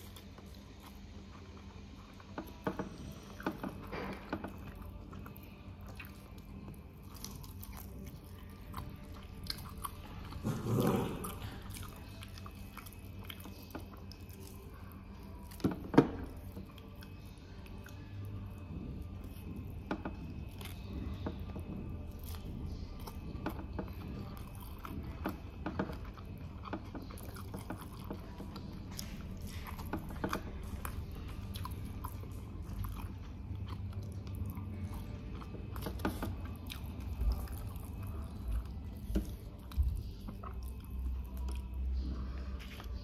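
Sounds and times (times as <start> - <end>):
person chewing crunchy food: 0.0 - 43.0
steady low hum: 0.0 - 43.0.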